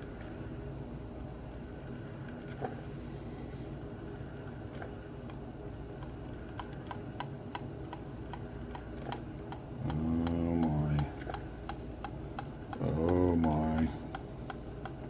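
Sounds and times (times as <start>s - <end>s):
pitched pump hum: 0.0s - 15.0s.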